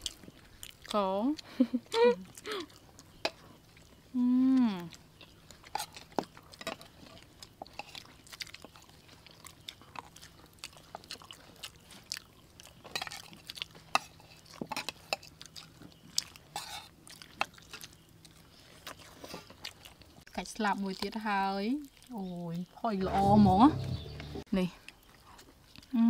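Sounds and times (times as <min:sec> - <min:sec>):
people chewing and smacking lips: 0:00.0 - 0:22.8, 0:24.6 - 0:26.0.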